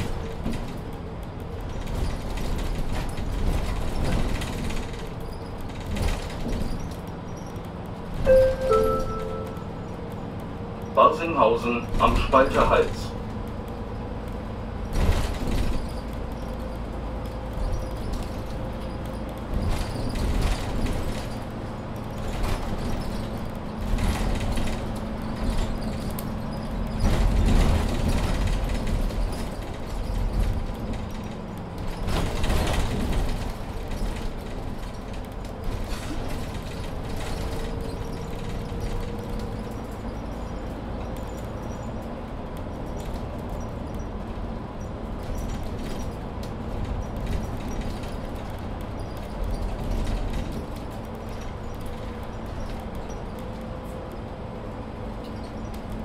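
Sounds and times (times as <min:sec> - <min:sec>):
bus drivetrain rumble and hum: 0:00.0 - 0:56.0.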